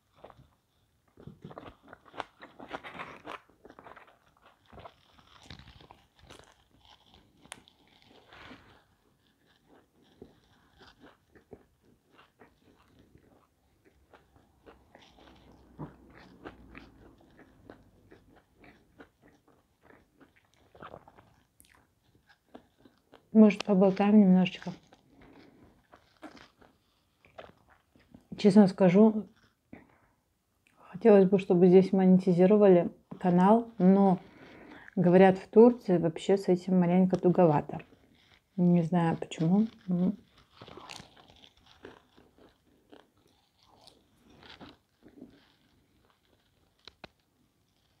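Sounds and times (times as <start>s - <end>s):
person chewing pizza crunches: 0.0s - 30.8s, 37.1s - 48.0s.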